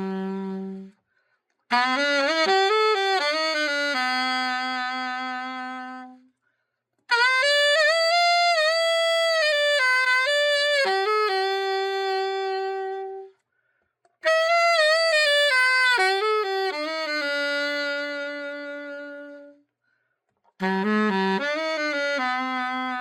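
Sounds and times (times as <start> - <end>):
solo alto saxophone melody: 0.0 - 6.4, 7.1 - 13.4, 14.1 - 19.7, 20.5 - 23.0.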